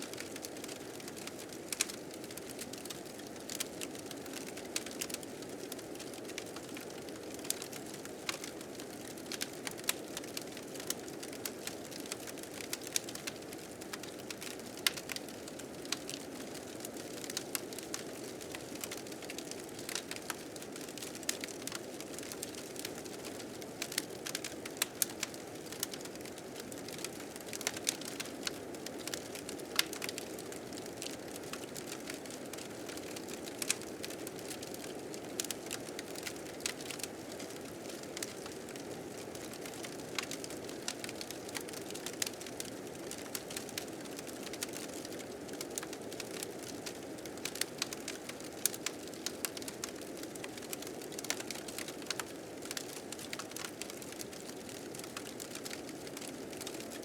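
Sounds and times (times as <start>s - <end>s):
wood fire crackling and popping: 0.1s - 57.0s.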